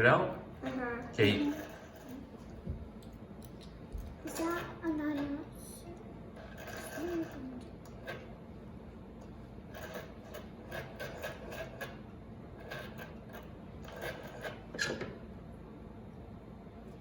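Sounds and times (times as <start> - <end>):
rotary telephone dial whirring: 0.7 - 8.5, 9.2 - 15.2.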